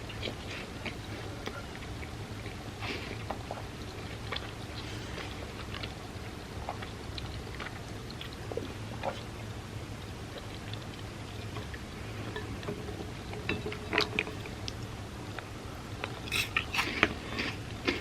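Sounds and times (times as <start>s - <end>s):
chewing cereal in milk: 0.0s - 18.0s
faint steady hum: 0.0s - 18.0s.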